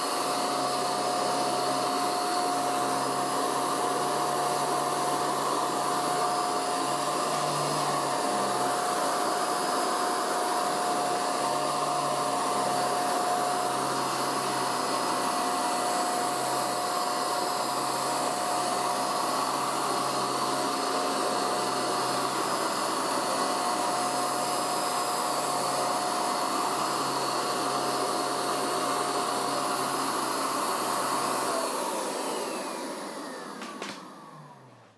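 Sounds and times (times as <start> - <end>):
vacuum cleaner whining: 0.0 - 34.9.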